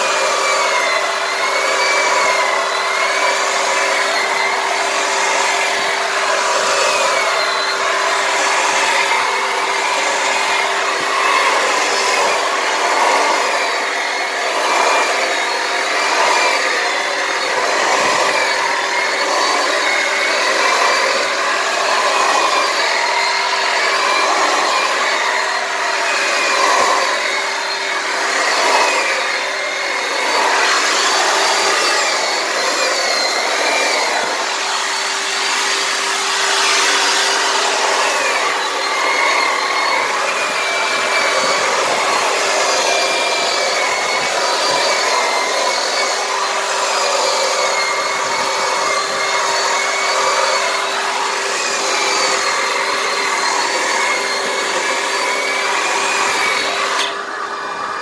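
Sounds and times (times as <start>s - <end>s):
drum sander scrubbing wood: 0.0s - 58.0s.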